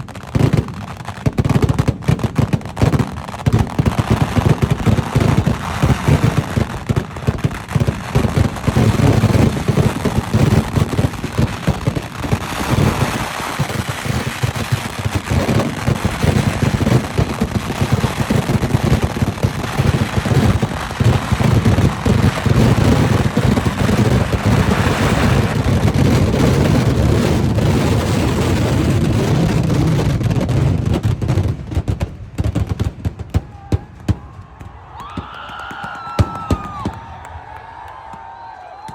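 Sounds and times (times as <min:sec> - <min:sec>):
fireworks exploding: 0:00.0 - 0:38.9.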